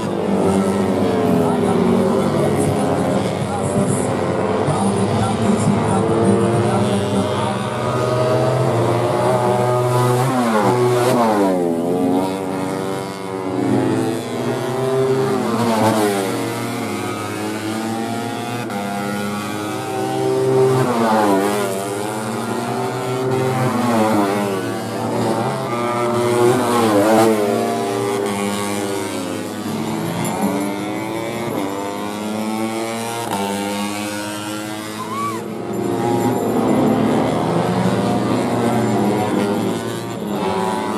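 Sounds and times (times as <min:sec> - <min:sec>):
racing motorcycles revving: 0:00.0 - 0:40.9.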